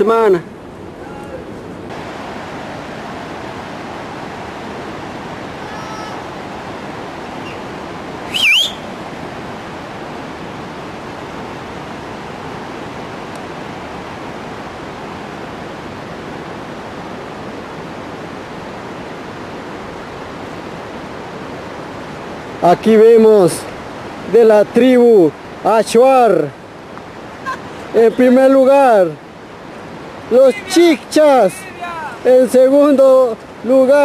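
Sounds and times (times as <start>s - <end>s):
mountain river rushing: 0.0s - 34.0s.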